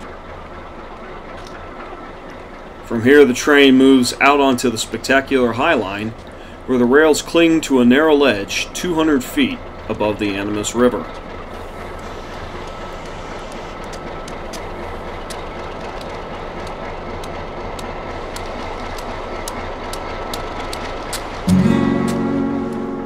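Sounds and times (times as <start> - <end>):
wheel clicks over rail joints: 0.0 - 22.3
diesel locomotive engine hum: 0.0 - 23.0.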